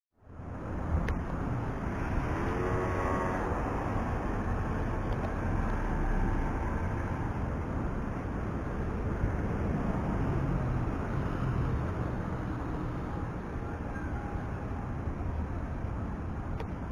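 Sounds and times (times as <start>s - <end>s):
traffic rumble: 0.2s - 16.9s.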